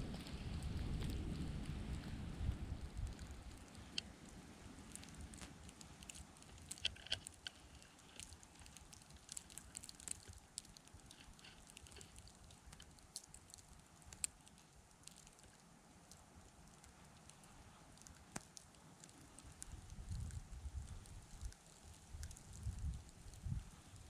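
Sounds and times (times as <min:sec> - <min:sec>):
low hiss: 0:00.0 - 0:24.0
snow ticking on microphone: 0:00.0 - 0:24.0.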